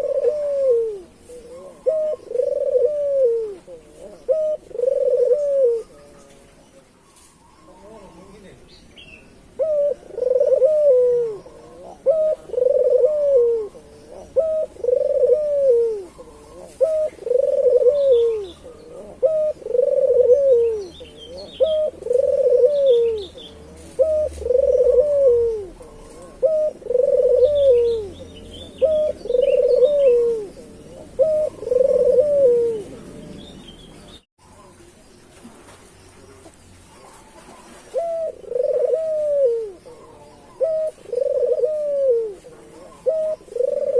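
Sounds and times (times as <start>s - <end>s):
dove cooing: 0.0s - 8.6s, 9.5s - 34.9s, 36.2s - 43.9s
small birds chirping: 0.0s - 43.9s.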